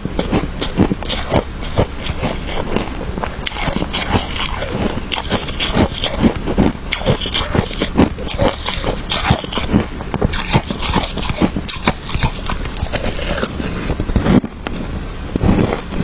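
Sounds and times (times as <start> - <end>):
shaved ice crunching: 0.2 - 14.4.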